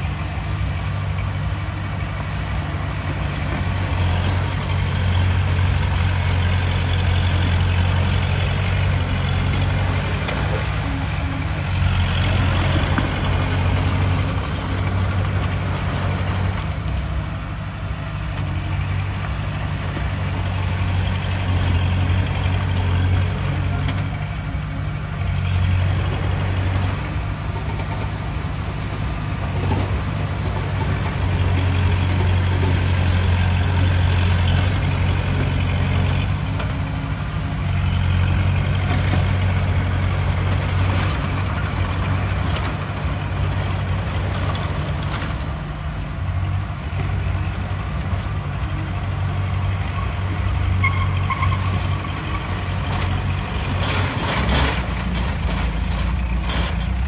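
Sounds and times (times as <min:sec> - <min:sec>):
heavy diesel machinery droning: 0:00.0 - 0:57.0.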